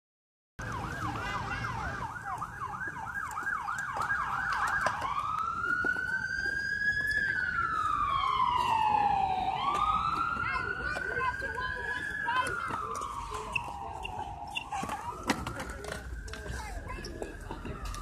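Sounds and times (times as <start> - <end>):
emergency siren yelp and wail: 0.6 - 18.0.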